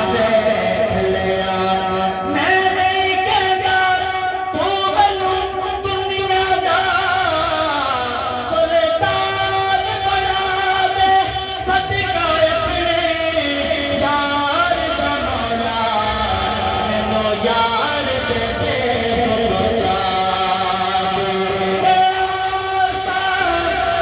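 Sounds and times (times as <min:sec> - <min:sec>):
man singing devotional song: 0:00.0 - 0:24.0.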